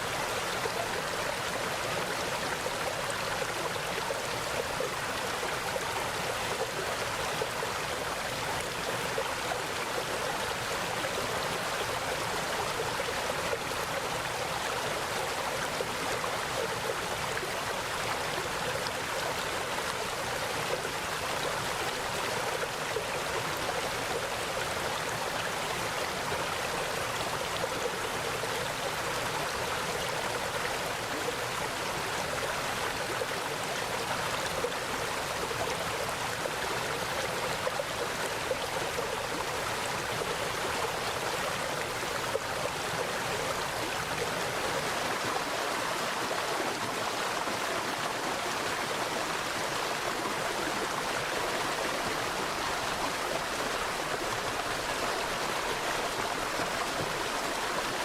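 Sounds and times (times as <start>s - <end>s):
mountain stream flowing over rocks: 0.0s - 58.0s.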